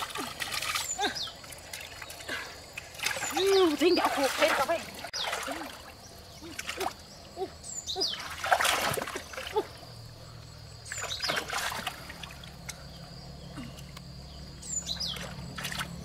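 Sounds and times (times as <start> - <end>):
splashing in pond water: 0.0 - 13.0, 14.6 - 16.0.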